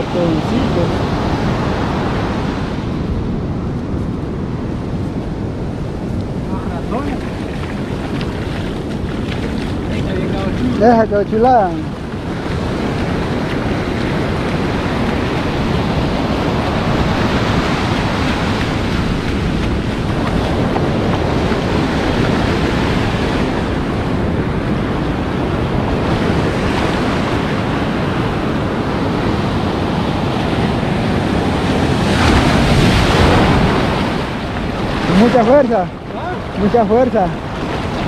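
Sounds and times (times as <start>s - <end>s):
ocean surf washing: 0.0s - 38.0s
wave breaking: 0.0s - 38.0s.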